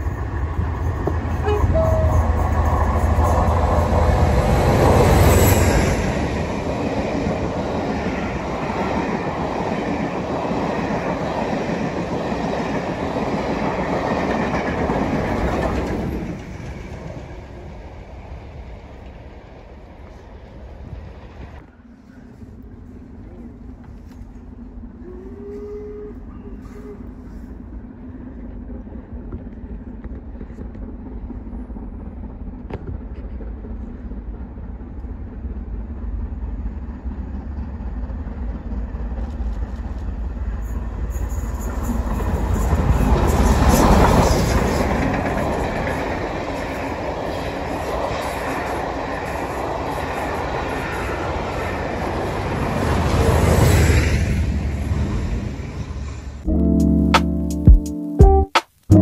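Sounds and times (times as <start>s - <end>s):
steam locomotive passing: 0.0s - 56.5s
train carriages running by: 0.0s - 56.5s.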